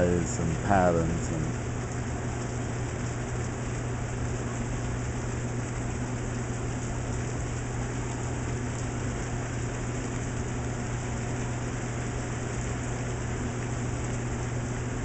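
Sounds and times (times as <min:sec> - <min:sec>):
rain falling on a puddle: 0:00.0 - 0:15.0
steady low hum: 0:00.0 - 0:15.0.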